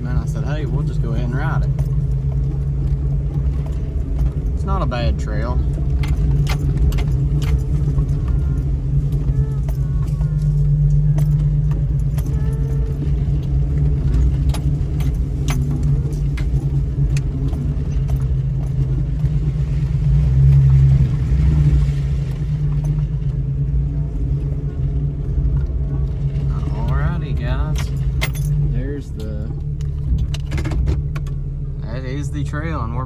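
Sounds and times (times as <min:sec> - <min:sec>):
light rattles and clicks: 0:00.0 - 0:31.8
car engine and road drone: 0:00.0 - 0:33.0.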